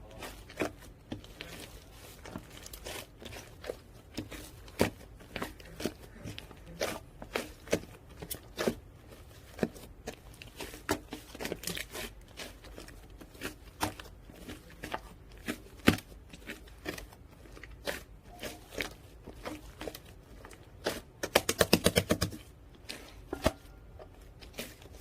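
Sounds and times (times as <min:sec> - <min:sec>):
slime squished by hand: 0:00.0 - 0:25.0.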